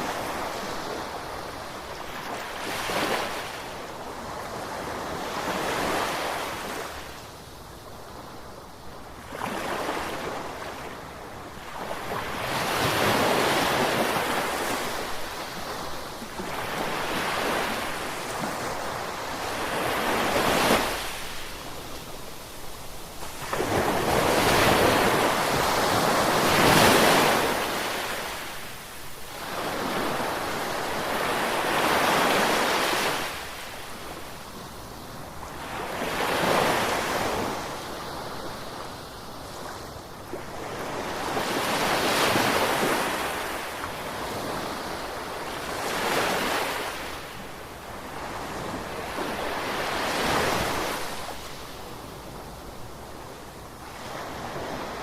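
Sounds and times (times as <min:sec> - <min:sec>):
ocean waves breaking on shore: 0:08.6 - 0:55.0.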